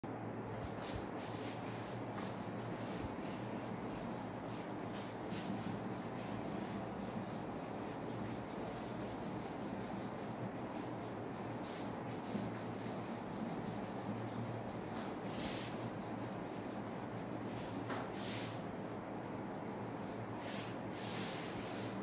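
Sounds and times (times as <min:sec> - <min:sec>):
duster rubbing whiteboard: 0:00.5 - 0:19.2, 0:19.8 - 0:22.0.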